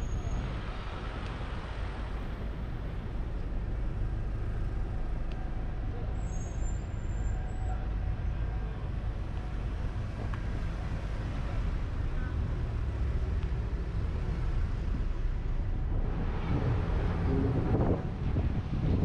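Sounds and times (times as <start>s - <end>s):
car driving low rumble: 0.0s - 19.0s.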